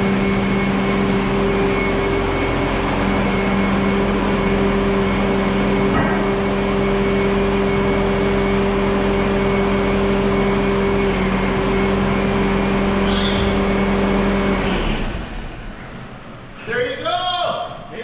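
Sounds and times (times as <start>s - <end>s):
diesel engine running: 0.0s - 17.1s.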